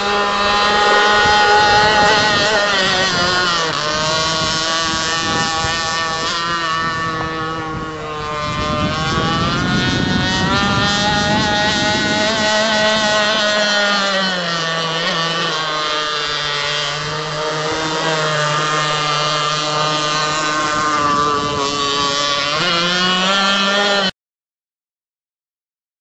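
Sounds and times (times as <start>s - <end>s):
two-stroke boat engine running: 0.0s - 24.1s.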